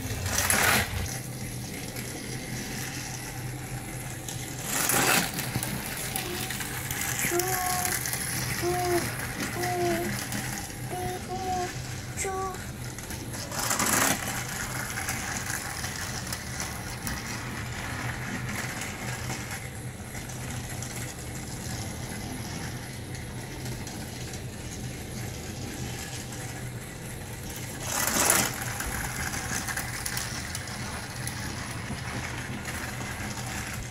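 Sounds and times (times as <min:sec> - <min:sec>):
toy train motor whirring: 0:00.0 - 0:33.9
toy train rattles: 0:00.0 - 0:33.9.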